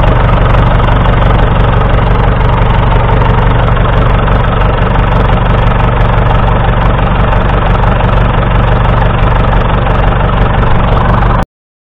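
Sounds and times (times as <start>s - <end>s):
diesel tractor engine idling: 0.0s - 11.5s.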